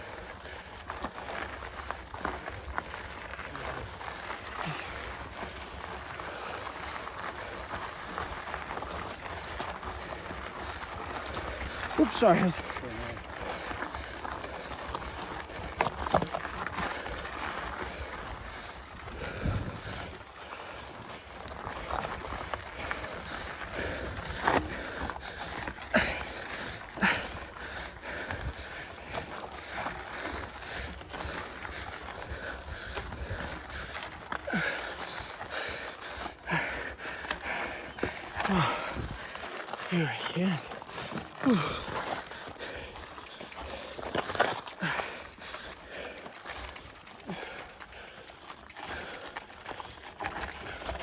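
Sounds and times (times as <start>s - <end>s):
bike clicks and rattles: 0.0s - 51.0s
heavy breathing: 0.0s - 51.0s.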